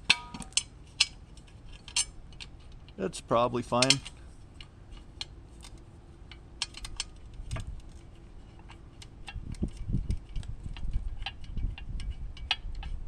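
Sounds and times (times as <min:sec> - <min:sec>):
small metal clicks and taps: 0:00.0 - 0:03.0, 0:03.8 - 0:13.0.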